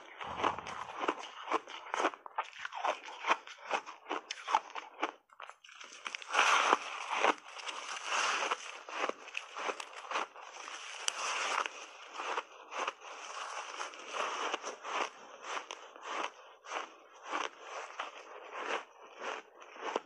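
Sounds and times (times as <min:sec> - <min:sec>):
ice crunching between teeth: 0:00.0 - 0:20.0.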